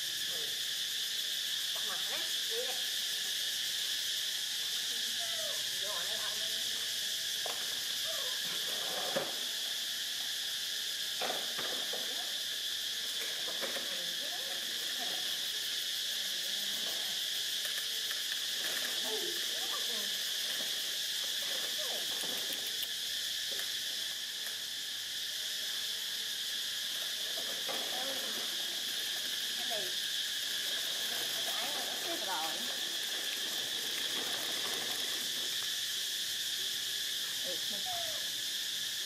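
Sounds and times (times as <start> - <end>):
insect chorus drone: 0.0 - 39.0.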